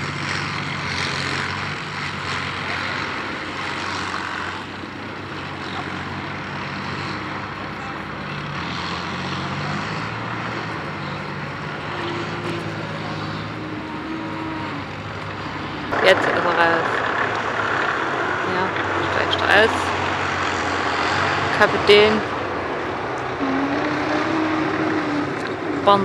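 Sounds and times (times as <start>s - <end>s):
tank diesel engine idling: 0.0s - 26.0s.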